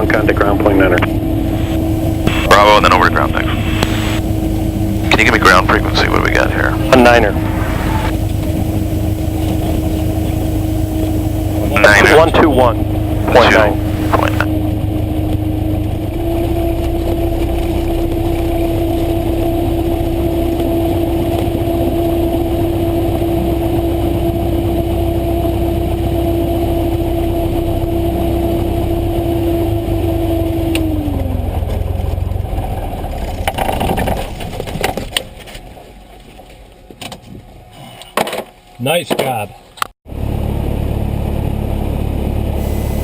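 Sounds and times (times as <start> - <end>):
propeller plane engine running: 0.0 - 36.5, 40.1 - 43.0.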